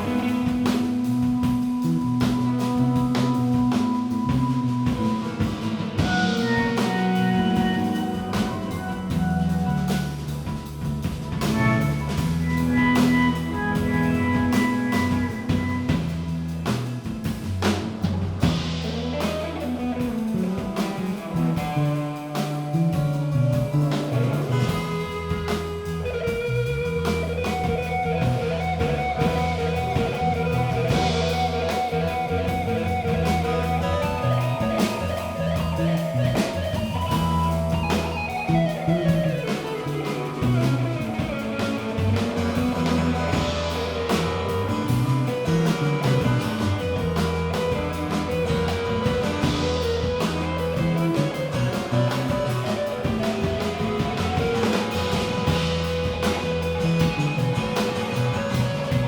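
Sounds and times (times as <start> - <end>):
bass guitar: 0.0 - 59.0
drum kit: 0.0 - 59.0
lead guitar: 0.0 - 59.0.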